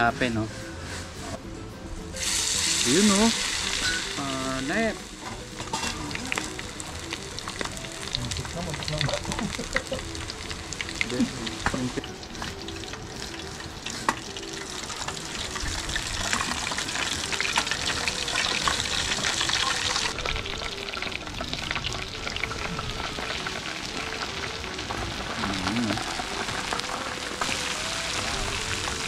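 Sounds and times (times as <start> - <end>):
chicken deep-frying in oil: 2.2 - 29.0.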